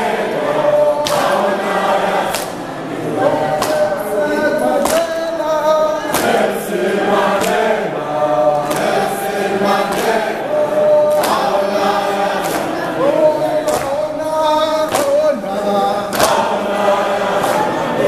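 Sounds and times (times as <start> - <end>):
hand claps: 0.0 - 2.7, 3.4 - 4.0, 4.6 - 7.9, 8.5 - 18.0
group of voices chanting: 0.0 - 18.0.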